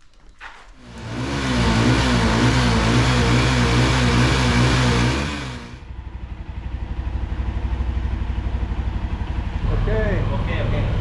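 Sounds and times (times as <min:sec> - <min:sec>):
motorbike engine revving and idling: 0:00.8 - 0:11.0.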